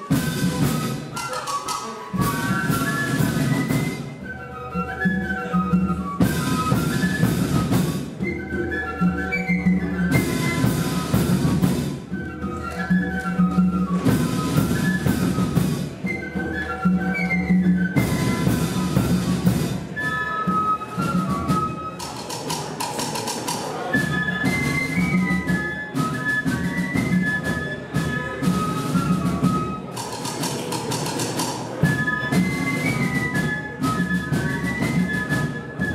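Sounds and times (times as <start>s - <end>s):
drums keeping the beat: 0.0s - 35.9s
flute band playing: 0.0s - 35.9s
percussion accents: 0.0s - 35.9s.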